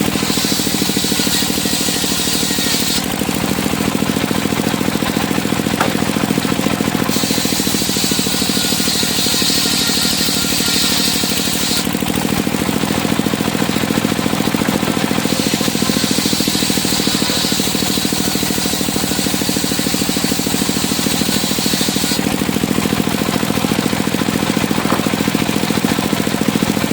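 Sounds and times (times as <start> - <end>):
engine-driven sawmill running: 0.0 - 26.9
saw blade whine cutting timber: 0.0 - 26.9.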